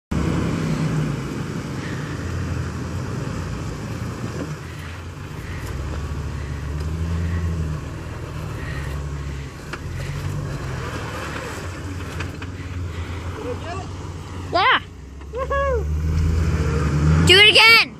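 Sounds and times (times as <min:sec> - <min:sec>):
engine running under heavy load: 0:00.1 - 0:15.1.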